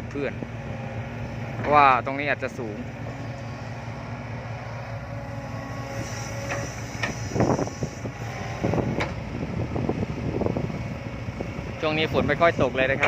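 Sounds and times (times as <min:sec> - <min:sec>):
diesel excavator running: 0:00.0 - 0:13.0.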